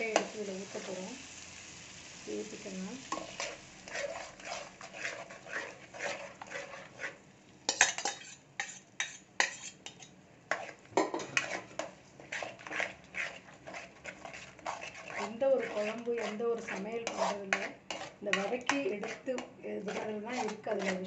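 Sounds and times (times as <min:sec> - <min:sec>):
metal spatula scraping bowl: 0:03.1 - 0:21.0.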